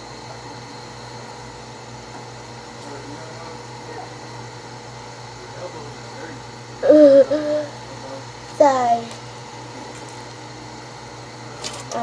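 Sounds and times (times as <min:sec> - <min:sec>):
fan humming and hissing: 0:00.0 - 0:12.0.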